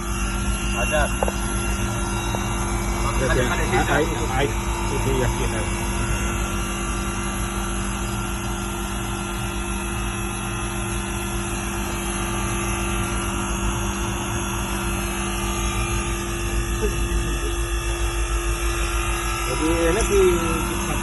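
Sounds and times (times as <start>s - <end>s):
gentle pulsing: 0.0s - 11.0s, 12.0s - 21.0s
air conditioner humming: 0.0s - 21.0s.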